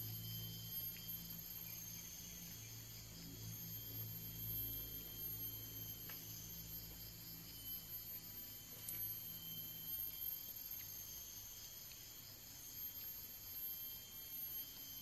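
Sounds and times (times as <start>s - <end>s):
low steady hum: 0.0s - 14.3s
insects trilling: 0.0s - 15.0s.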